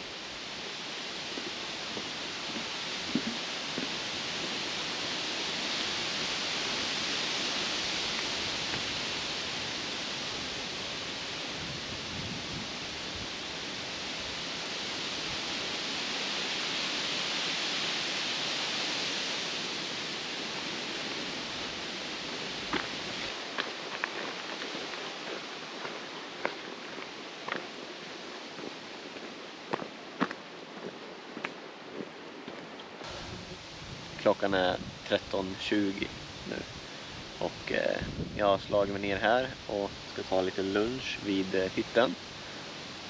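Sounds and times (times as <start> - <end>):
wind rustling leaves: 0.0 - 43.0.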